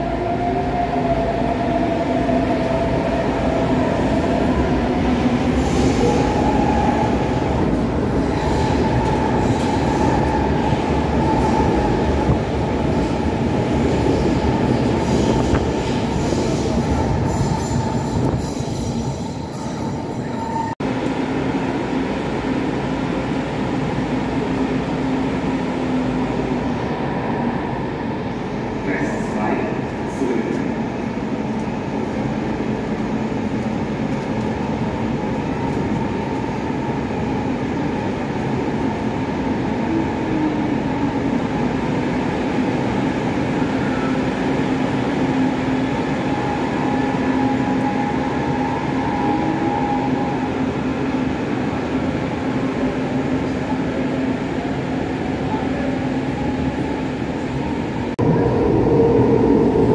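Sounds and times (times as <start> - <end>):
electric train rumbling: 0.0 - 59.9.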